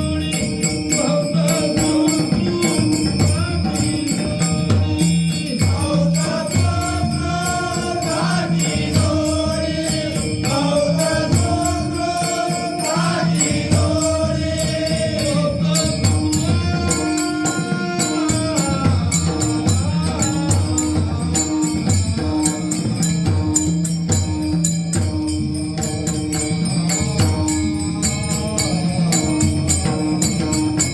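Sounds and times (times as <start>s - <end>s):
pakhawaj drum rhythm: 0.0s - 30.9s
small hand cymbals ringing: 0.0s - 30.9s.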